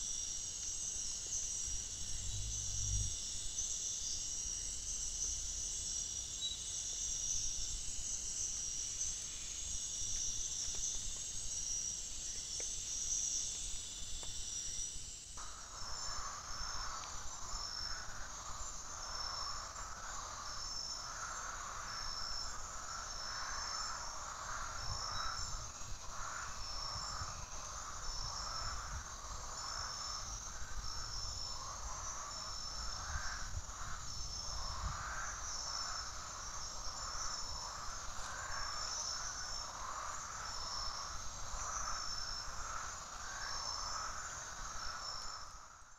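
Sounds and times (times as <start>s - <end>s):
high insect chirp: 0.0s - 45.9s
insect chorus trilling: 0.0s - 45.9s
low pulsing insect calls: 0.0s - 45.9s.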